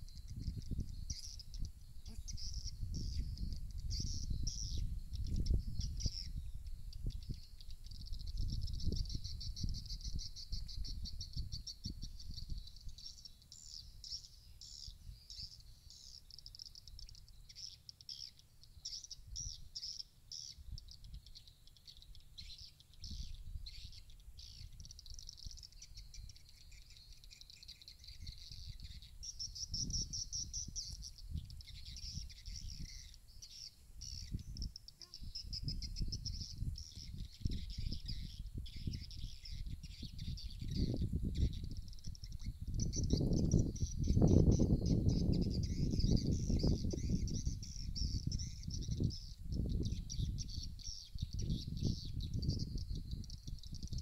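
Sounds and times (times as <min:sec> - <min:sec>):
wind rumbling on microphone: 0:00.0 - 0:16.0, 0:18.8 - 0:21.4, 0:22.0 - 0:54.0.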